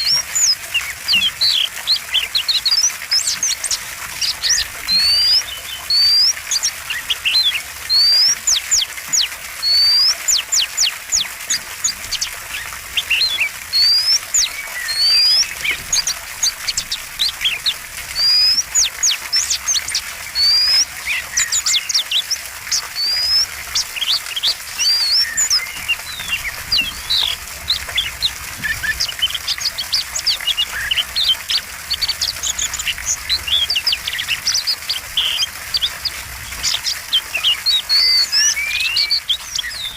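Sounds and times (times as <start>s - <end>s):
bird chirps and trills: 0.0s - 39.9s
bird whistled song: 0.0s - 39.9s.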